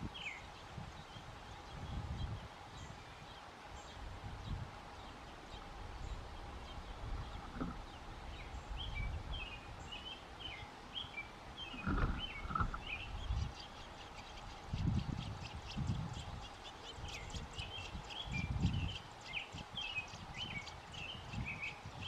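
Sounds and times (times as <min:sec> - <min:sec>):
bird chirping: 0:00.2 - 0:22.0.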